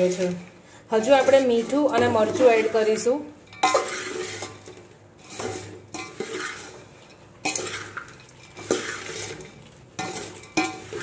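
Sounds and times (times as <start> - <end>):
metal spoon scraping metal pot: 0.0 - 11.0.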